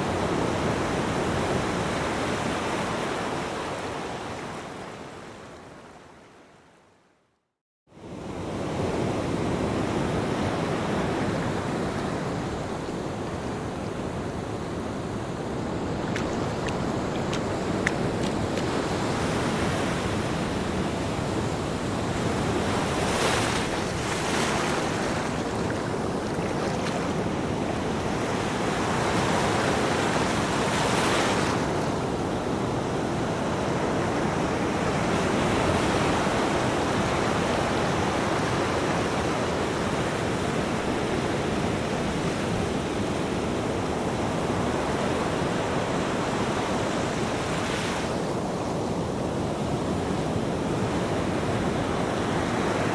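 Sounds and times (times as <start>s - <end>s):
ocean waves breaking on beach: 0.0s - 6.2s, 8.0s - 52.9s.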